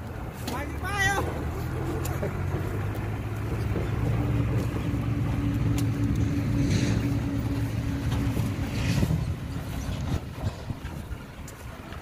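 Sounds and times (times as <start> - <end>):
dump truck diesel engine running: 0.0 - 12.0.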